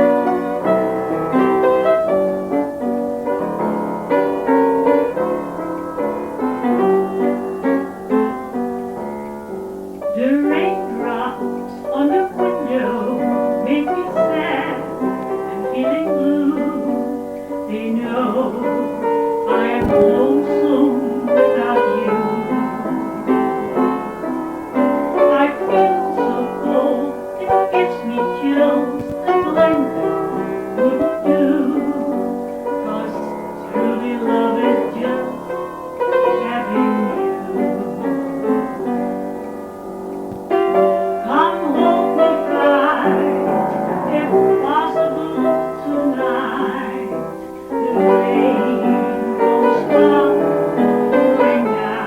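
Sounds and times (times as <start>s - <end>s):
slow piano accompaniment: 0.0s - 52.0s.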